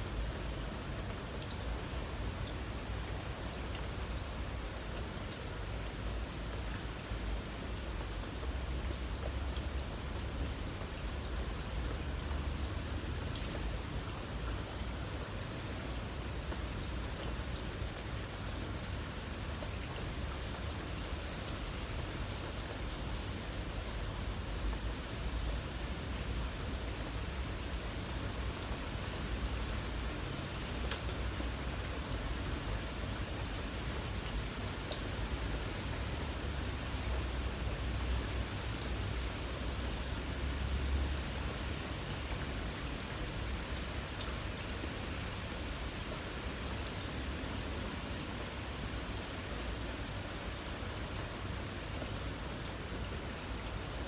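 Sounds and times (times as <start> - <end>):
insects chirring: 0.0 - 53.9
faint drip ticks: 0.0 - 54.0
light rain falling: 0.0 - 54.0.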